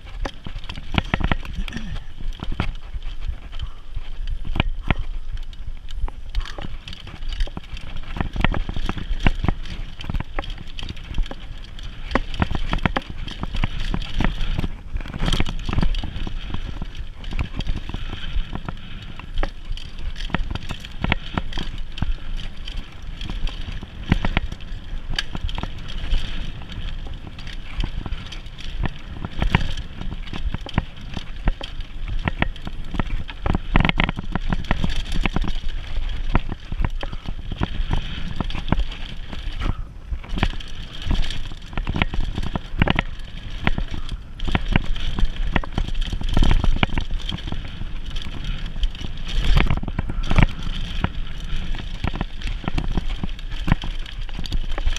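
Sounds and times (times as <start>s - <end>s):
bike rattling and knocking: 0.0s - 54.9s
bike tyres rumbling on dirt trail: 0.0s - 54.9s.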